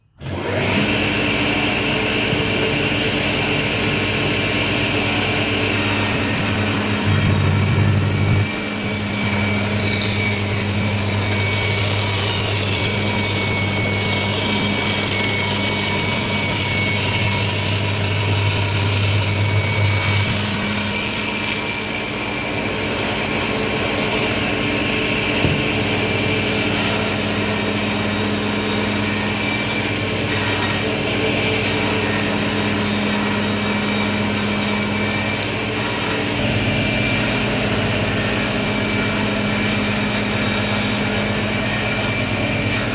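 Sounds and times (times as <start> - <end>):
table saw humming: 0.0 - 42.9.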